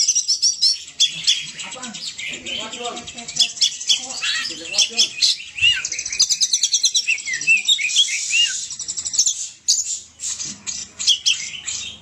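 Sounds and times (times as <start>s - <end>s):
songbird singing trills and whistles: 0.0s - 12.0s.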